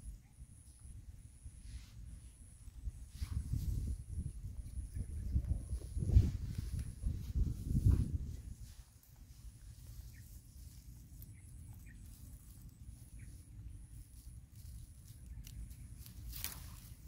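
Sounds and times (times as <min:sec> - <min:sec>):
rustling twigs and dry grass: 0:01.6 - 0:17.0.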